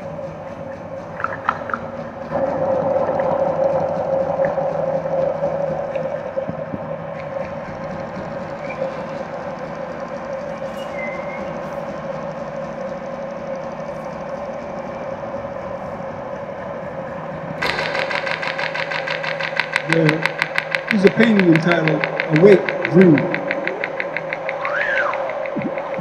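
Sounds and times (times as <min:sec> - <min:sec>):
steady tonal drone: 0:00.0 - 0:26.0.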